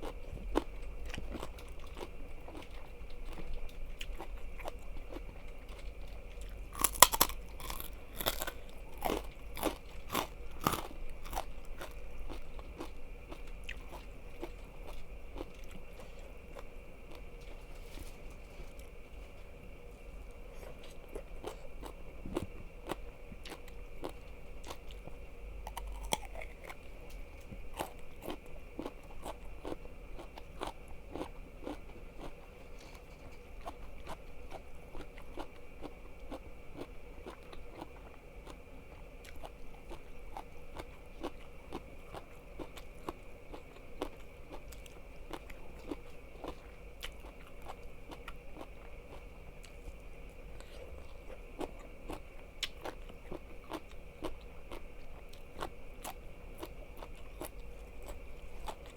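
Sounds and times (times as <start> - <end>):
chewing crunchy food: 0.0 - 58.9.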